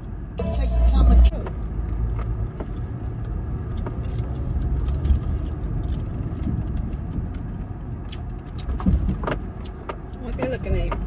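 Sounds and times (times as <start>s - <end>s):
road and engine rumble in car: 0.0s - 11.0s
faint clicks and rattles: 1.4s - 11.0s.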